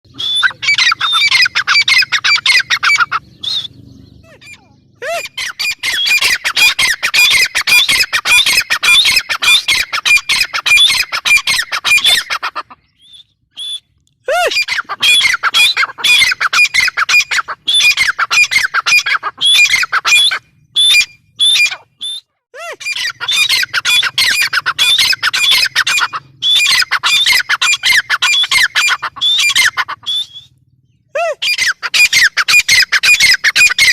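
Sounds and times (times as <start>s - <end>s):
francolin shrill squawking calls: 0.1s - 13.9s, 14.5s - 33.9s.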